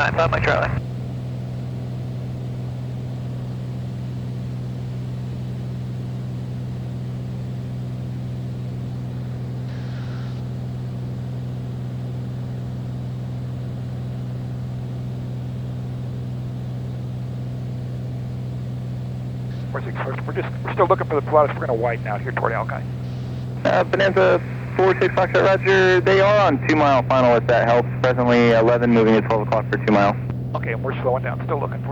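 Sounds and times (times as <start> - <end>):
aircraft engine and propeller drone: 0.0 - 31.9.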